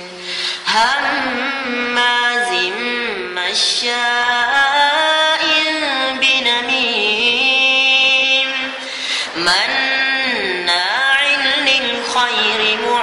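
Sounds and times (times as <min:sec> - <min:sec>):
solo devotional chant: 0:00.0 - 0:13.0.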